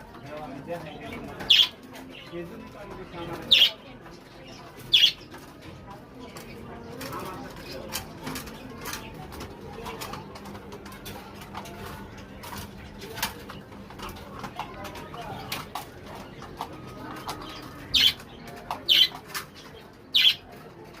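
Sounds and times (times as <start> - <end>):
clicks and rustles: 0.0 - 21.0.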